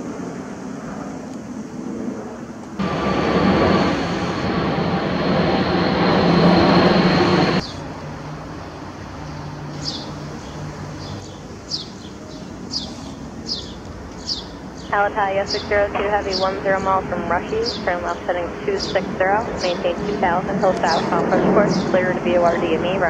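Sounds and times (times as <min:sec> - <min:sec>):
high engine whine: 0:00.0 - 0:23.0
jet engines roaring overhead: 0:00.0 - 0:23.0.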